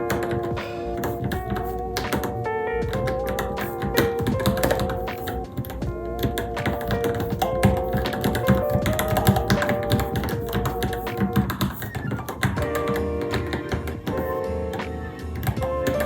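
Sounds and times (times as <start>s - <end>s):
mechanical keyboard typing: 0.0s - 14.4s, 15.4s - 16.0s
background music: 0.0s - 16.0s.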